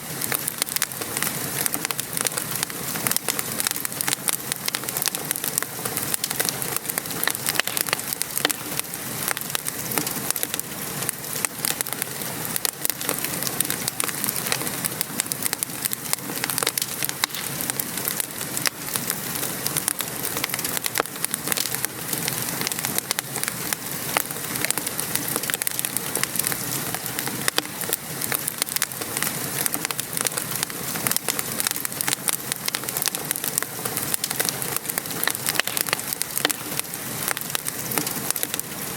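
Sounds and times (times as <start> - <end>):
rain pattering: 0.0 - 38.9
wood fire crackling: 0.0 - 38.9.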